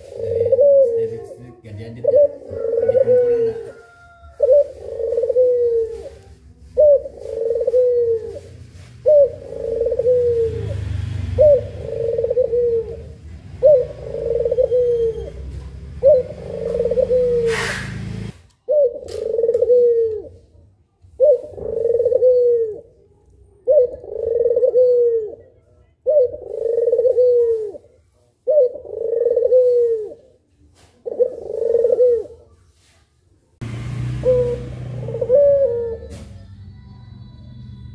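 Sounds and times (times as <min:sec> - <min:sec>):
dove cooing: 0:00.0 - 0:17.8, 0:18.6 - 0:23.0, 0:23.6 - 0:32.5, 0:34.1 - 0:36.2.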